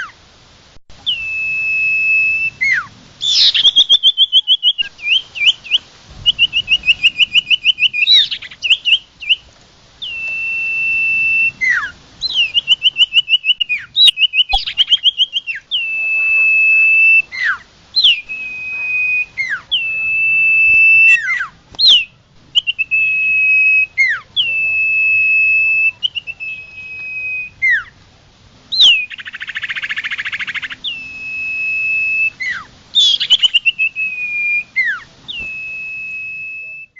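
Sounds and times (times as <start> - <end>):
songbird singing trills and whistles: 0.9 - 28.0, 28.7 - 36.9.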